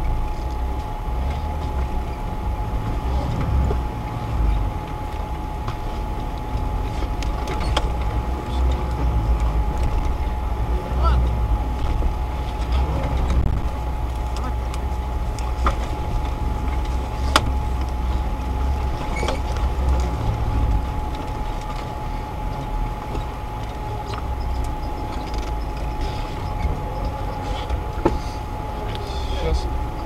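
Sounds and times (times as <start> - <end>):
thin steady whine: 0.0 - 30.0
vehicle engine rumble: 0.0 - 30.0.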